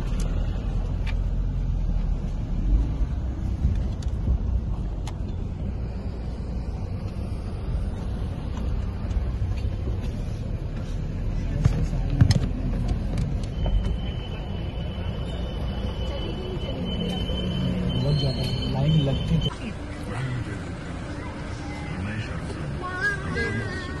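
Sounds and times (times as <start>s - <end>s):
car road noise rumble: 0.0s - 24.0s.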